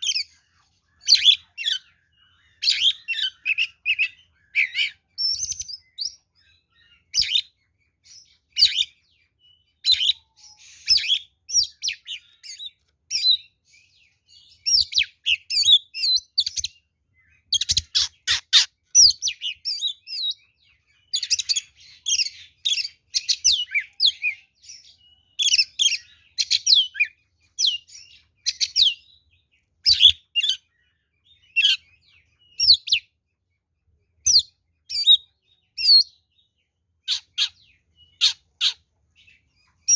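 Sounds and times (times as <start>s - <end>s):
songbird whistling song: 0.0s - 39.9s.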